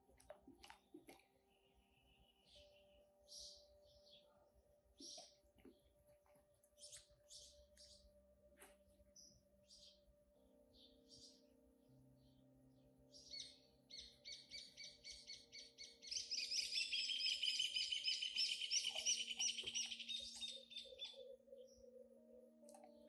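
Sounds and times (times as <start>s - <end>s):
birds chirping: 0.6s - 10.1s, 13.1s - 23.0s.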